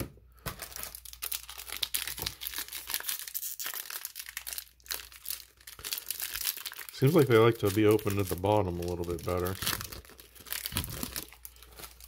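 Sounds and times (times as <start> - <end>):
foil wrapper crinkling and tearing: 0.4 - 12.0.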